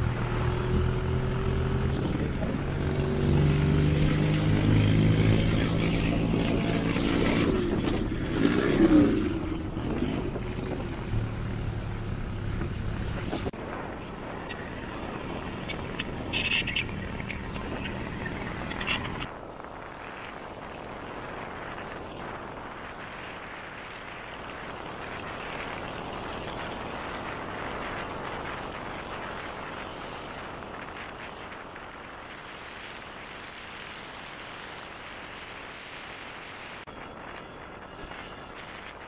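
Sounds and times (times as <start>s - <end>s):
motorcycle engine: 0.0s - 31.6s
road noise: 0.0s - 39.0s
wind rushing over microphone: 0.0s - 39.0s.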